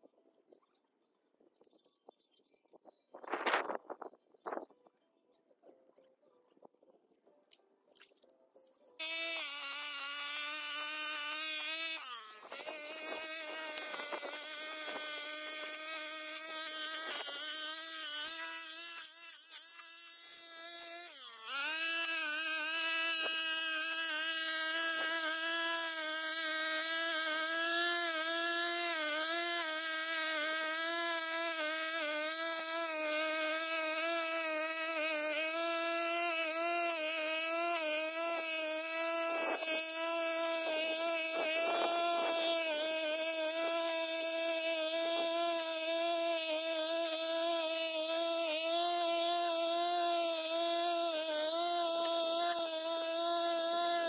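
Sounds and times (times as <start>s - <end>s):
brush cutter engine at high revs: 9.0s - 54.0s.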